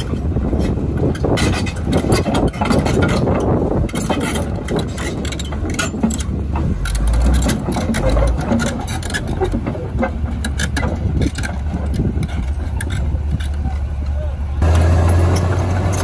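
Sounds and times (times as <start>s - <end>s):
bulldozer diesel engine running: 0.0s - 16.0s
steel tracks clanking: 0.0s - 16.0s.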